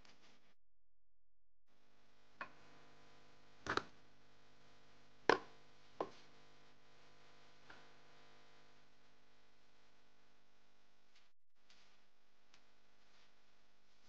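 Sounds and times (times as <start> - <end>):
faint steady hum: 1.7 - 14.0.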